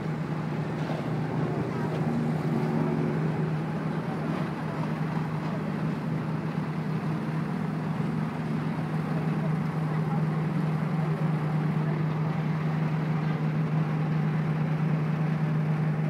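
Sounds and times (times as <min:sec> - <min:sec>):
low engine hum: 0:00.0 - 0:16.0
street noise: 0:00.0 - 0:16.0.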